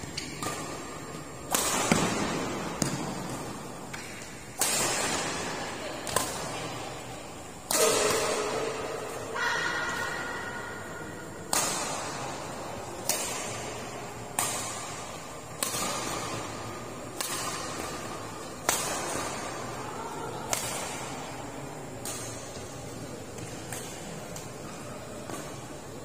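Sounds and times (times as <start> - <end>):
rackets hitting shuttlecock: 0.0 - 26.0.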